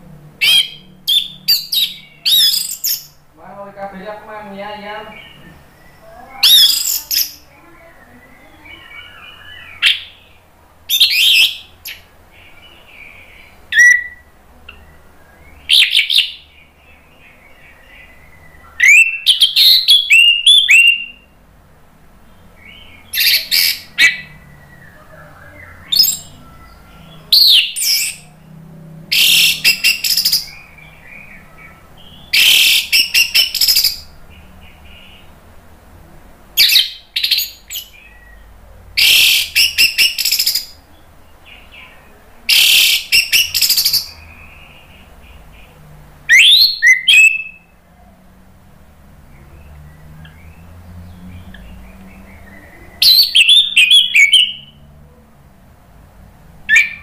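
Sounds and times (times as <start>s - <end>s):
thrush singing: 0.0s - 55.7s.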